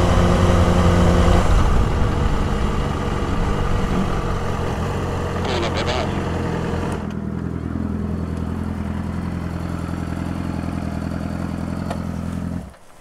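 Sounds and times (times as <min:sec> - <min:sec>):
motorcycle engine running at low revs: 0:00.0 - 0:12.8.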